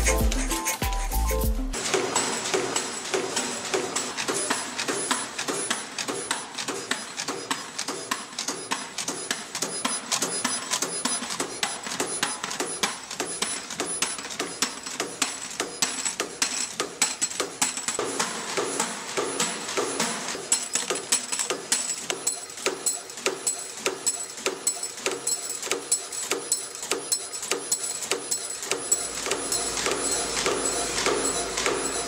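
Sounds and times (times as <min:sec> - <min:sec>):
wire-bending machine clattering: 0:01.7 - 0:32.0.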